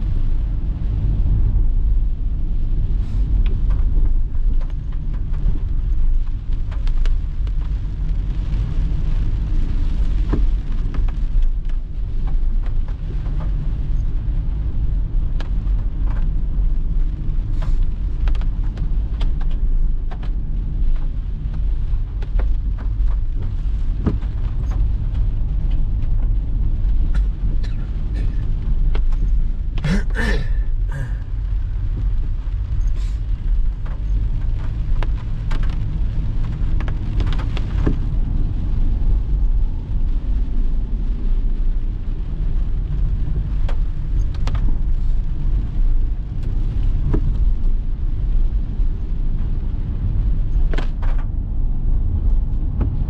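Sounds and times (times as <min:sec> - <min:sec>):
engine and tyres on wet road: 0:00.0 - 0:53.0
raindrops on windshield and roof: 0:00.0 - 0:53.0.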